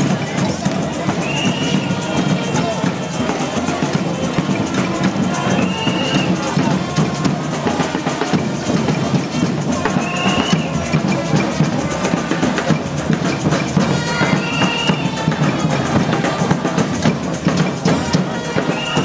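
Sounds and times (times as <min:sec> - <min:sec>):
drums and percussion: 0:00.0 - 0:19.0.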